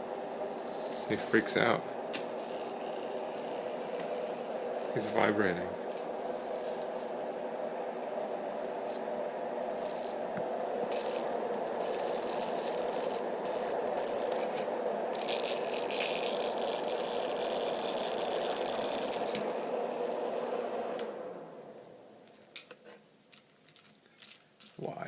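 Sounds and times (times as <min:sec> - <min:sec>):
toy buzzing and rattling: 0:00.0 - 0:20.6
white noise machine fan whoosh: 0:00.0 - 0:22.2.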